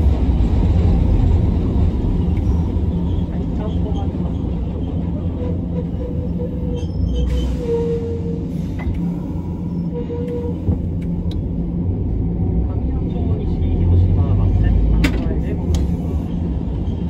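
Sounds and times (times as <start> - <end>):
tram wheels and motors rumbling: 0.0 - 17.0.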